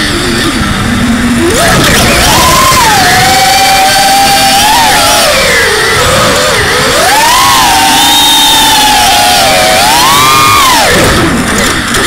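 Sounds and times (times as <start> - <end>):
drone motors whining: 0.0 - 12.0
rough rushing noise: 0.0 - 12.0.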